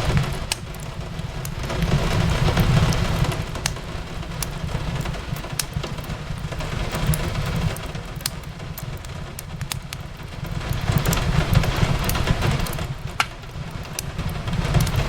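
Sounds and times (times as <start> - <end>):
rain on a window pane: 0.0 - 15.0
wood fire crackling and popping: 0.0 - 15.0.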